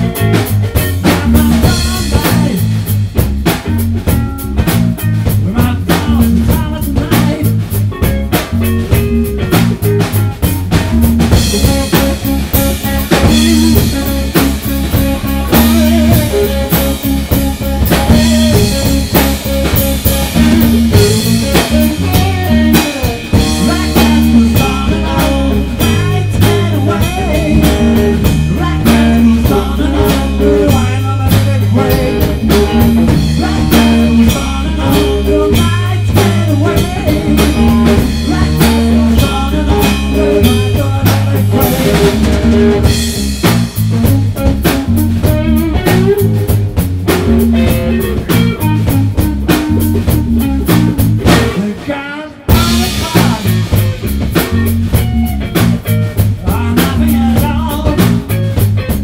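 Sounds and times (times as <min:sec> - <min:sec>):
bass line: 0:00.0 - 0:59.0
drum kit: 0:00.0 - 0:59.0
electric guitar: 0:00.0 - 0:59.0.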